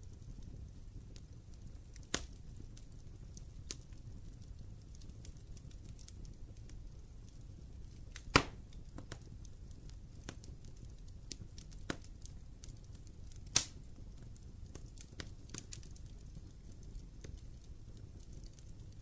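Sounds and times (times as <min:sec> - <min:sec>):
fire snapping: 0:00.0 - 0:19.0
wood fire crackling: 0:00.0 - 0:19.0.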